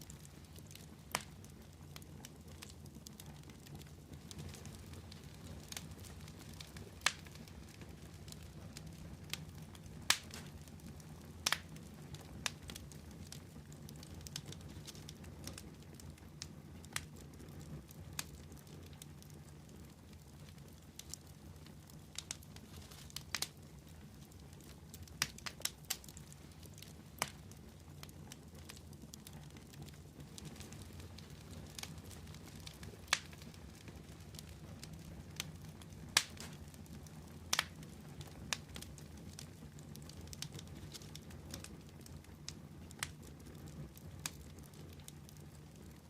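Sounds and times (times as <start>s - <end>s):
fire popping and snapping: 0.0s - 46.0s
low rumble of burning: 0.0s - 46.0s.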